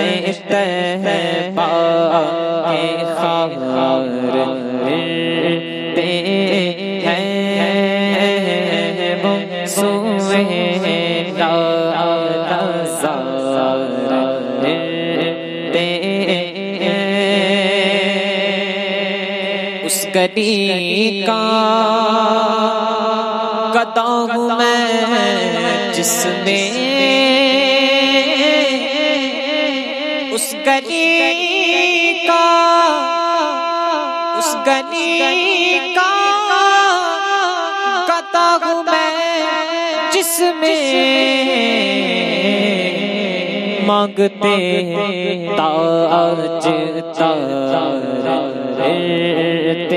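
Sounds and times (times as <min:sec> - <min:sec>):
man singing melismatic notes: 0:00.0 - 0:49.9.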